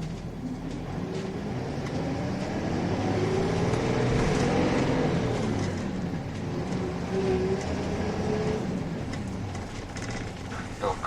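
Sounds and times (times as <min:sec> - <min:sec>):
bus diesel engine revving: 0:00.0 - 0:11.0.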